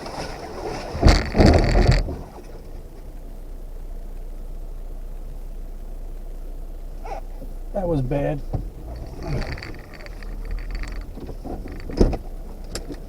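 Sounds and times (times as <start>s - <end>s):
engine idling: 0.0s - 13.0s
vehicle crunching and scraping: 0.0s - 13.0s.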